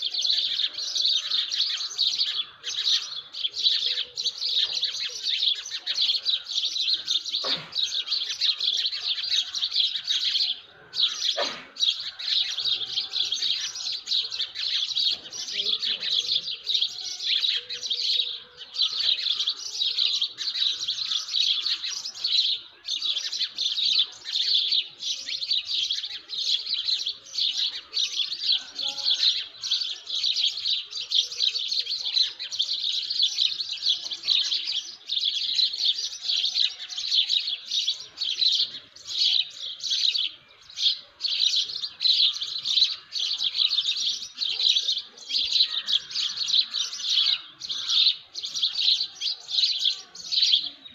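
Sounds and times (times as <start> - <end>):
birds chirping in chorus: 0.0 - 50.9.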